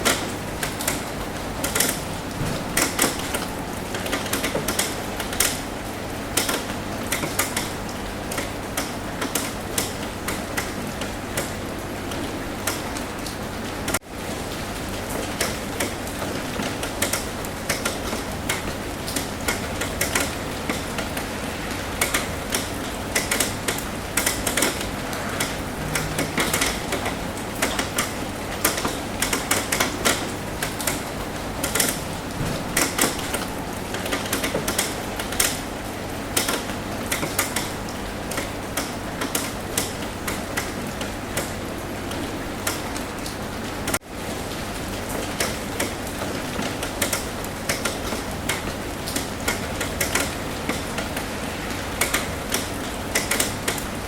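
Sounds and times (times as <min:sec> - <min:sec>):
sharp taps of raindrops: 0:00.0 - 0:05.7, 0:06.3 - 0:21.3, 0:22.0 - 0:44.1, 0:45.0 - 0:51.3
rain on a roof: 0:00.0 - 0:54.0.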